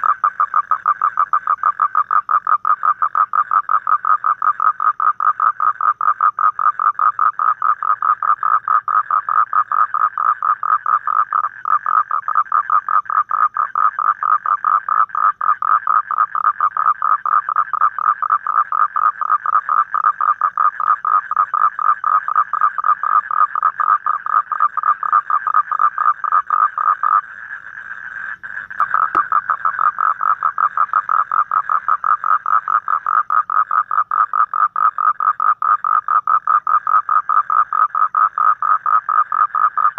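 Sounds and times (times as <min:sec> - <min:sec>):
toad calling in rapid pulses: 0:00.0 - 0:39.9.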